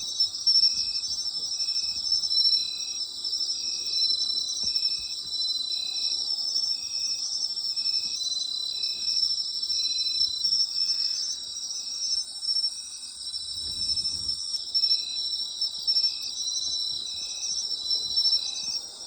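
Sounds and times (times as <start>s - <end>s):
insect chirping: 0.0s - 19.0s
insects trilling: 0.0s - 19.0s.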